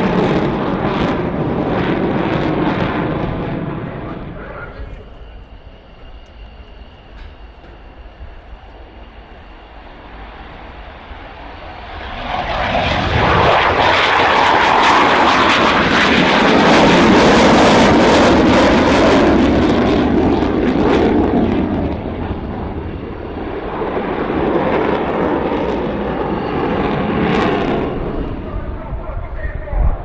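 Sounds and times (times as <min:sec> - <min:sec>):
jet engine roaring with crackle: 0:00.0 - 0:30.0.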